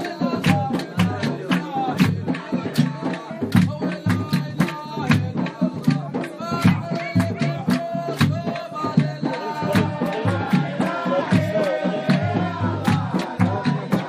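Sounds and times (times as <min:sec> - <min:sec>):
music with percussion beat: 0:00.0 - 0:14.0.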